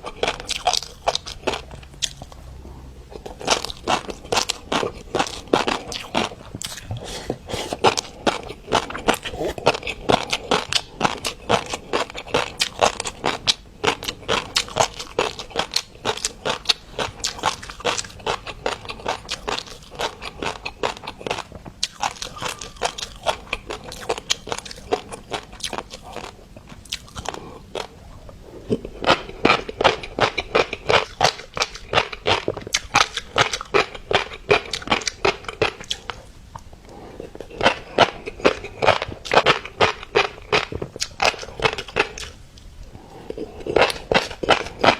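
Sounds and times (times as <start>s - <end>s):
chewing fish roe popping: 0.0s - 2.5s, 3.1s - 44.9s.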